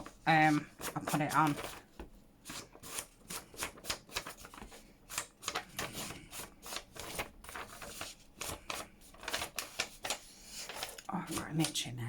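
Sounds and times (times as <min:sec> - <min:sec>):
paper rustling: 0:00.0 - 0:11.9.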